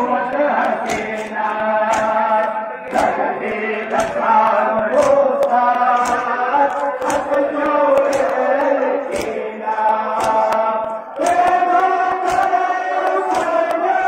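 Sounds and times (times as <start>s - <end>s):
men chanting: 0.0s - 14.0s
hands slapping chests: 0.2s - 14.0s.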